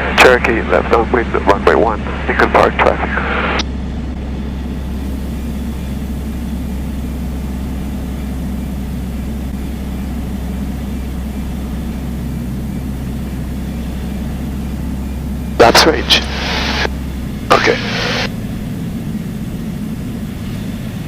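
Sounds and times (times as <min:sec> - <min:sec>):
airplane engine and propeller drone: 0:00.0 - 0:21.0.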